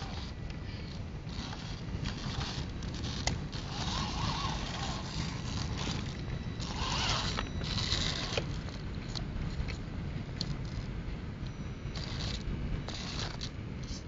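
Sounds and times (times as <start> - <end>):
tyres scrabbling on rock: 0.0 - 9.8, 12.0 - 13.5
electric motor and gears whining: 0.0 - 14.0
steady low rumble: 0.0 - 14.0.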